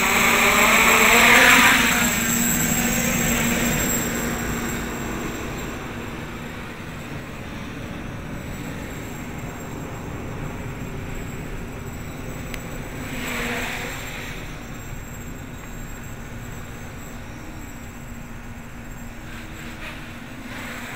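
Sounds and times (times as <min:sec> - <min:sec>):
drone propellers buzzing: 0:00.0 - 0:20.9.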